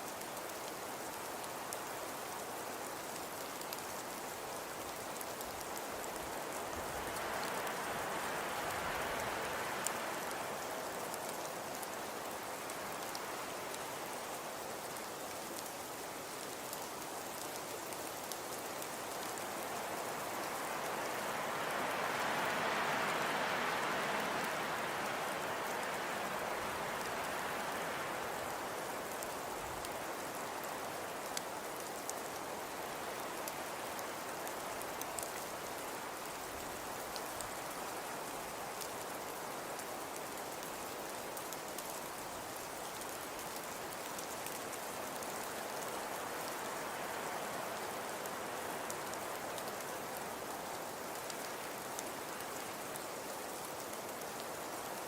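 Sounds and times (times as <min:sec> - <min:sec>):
crackling fire: 0:00.0 - 0:55.0.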